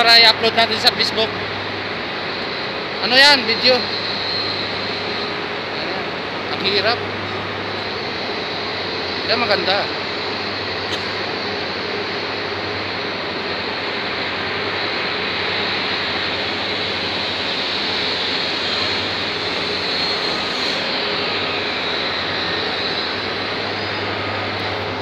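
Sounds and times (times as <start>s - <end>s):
air-handling machinery rushing: 0.0s - 25.0s
low hum: 1.2s - 25.0s.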